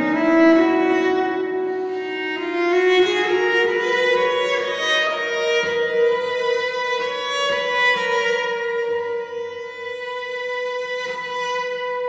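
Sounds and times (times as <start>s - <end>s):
bowed cello melody: 0.0s - 12.0s.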